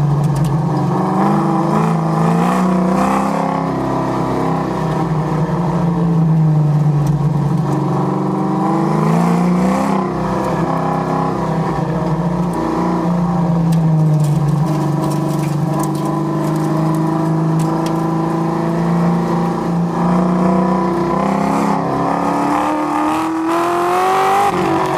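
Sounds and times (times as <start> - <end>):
car engine revving: 0.1 - 24.9.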